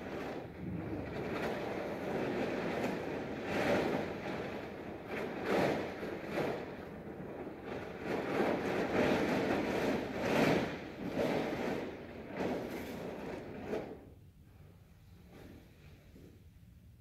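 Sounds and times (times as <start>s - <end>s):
plastic tarp rustling: 0.0s - 14.2s.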